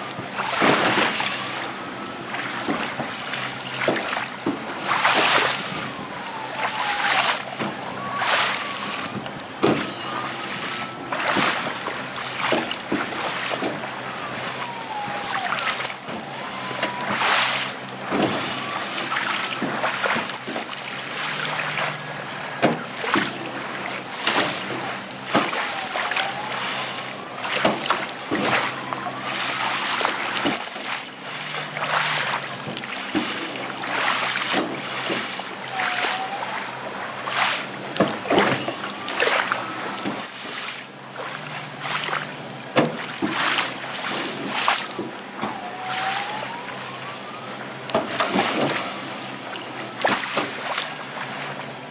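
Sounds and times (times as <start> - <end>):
short sliding whine: 0.0 - 51.8
low steady motor hum: 0.0 - 51.9
small waves splashing: 0.0 - 51.9.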